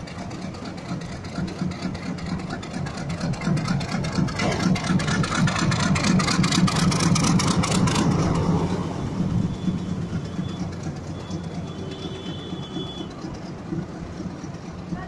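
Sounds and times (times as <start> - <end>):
rapid wheel clatter: 0.0 - 15.0
train coaches rumbling on track: 0.0 - 15.0.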